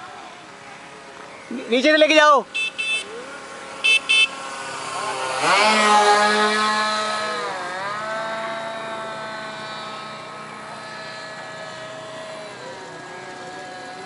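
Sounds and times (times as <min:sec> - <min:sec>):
model airplane motor droning: 0:02.6 - 0:14.0.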